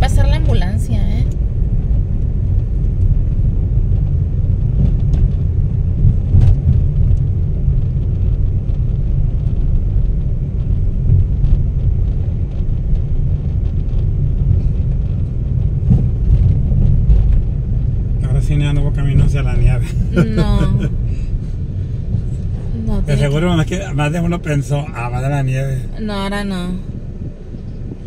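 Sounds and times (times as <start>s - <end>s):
road and engine rumble: 0.0s - 28.0s.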